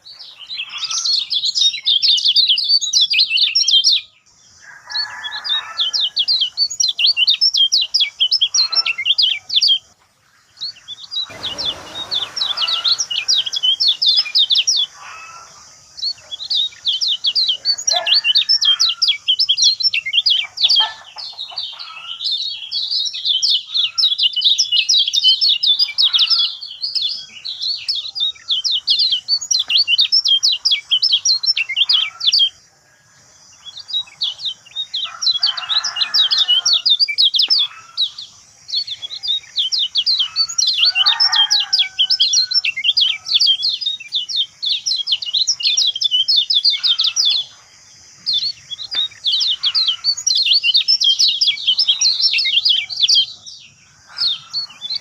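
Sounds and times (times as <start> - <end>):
bird rapid chirping song: 0.0 - 55.0.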